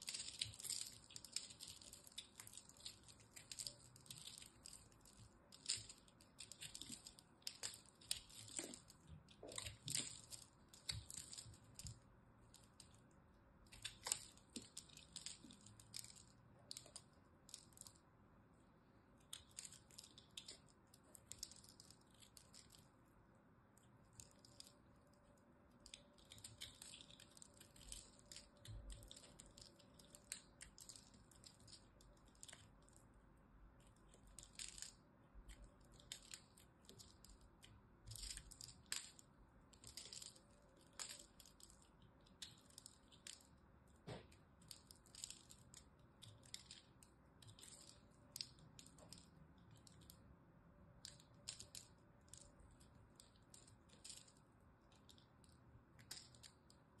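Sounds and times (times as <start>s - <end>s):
knife carving crumbly soap: 0.0s - 18.2s, 19.0s - 57.0s.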